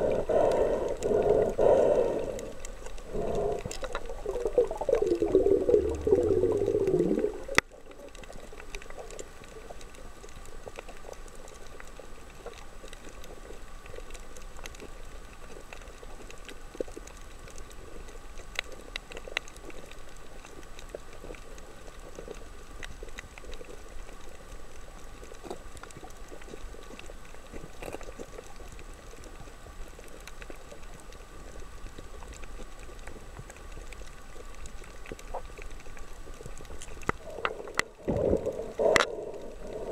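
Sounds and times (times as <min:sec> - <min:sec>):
underwater crackle: 0:00.0 - 0:39.9.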